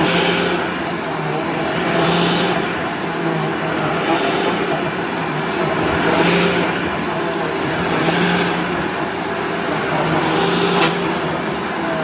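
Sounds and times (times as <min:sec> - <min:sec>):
vacuum cleaner on a rug: 0:00.0 - 0:12.0.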